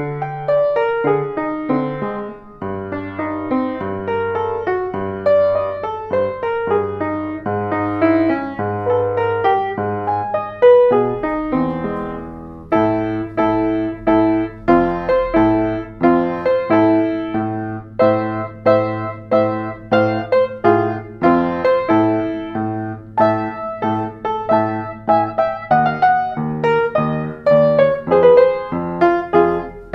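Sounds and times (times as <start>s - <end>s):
upright piano chords: 0.0s - 29.9s.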